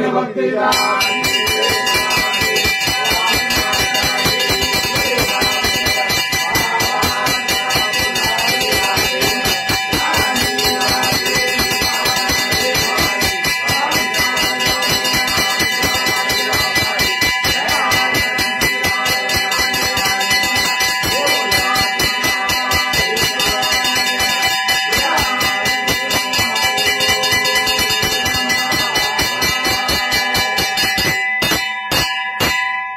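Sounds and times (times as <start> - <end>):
temple bells ringing: 0.7 - 32.9.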